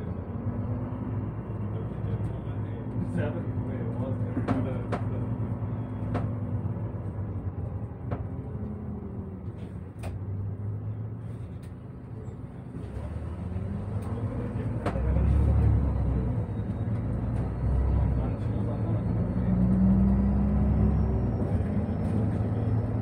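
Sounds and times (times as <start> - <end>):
bus engine hum: 0.0 - 23.0
road noise: 0.0 - 23.0.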